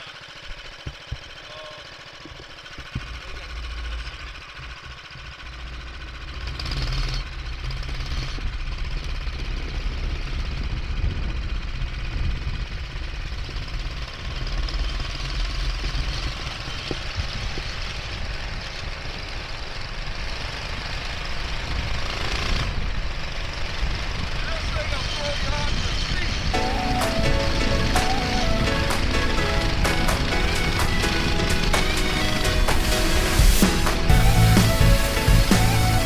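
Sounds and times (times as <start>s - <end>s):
small motorcycle engine running: 0.0s - 36.0s.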